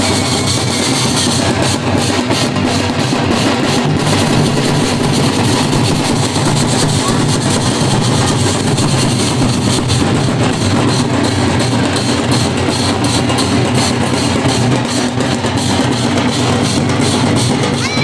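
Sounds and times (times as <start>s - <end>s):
large barrel drums beaten: 0.0s - 18.0s
smaller higher drum: 0.0s - 18.0s.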